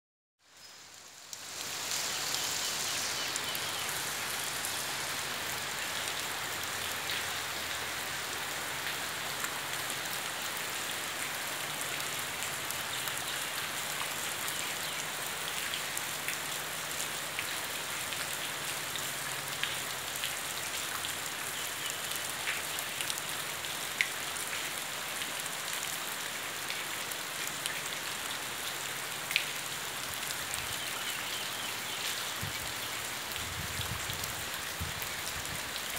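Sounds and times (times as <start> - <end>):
steady rain falling: 0.4 - 35.9.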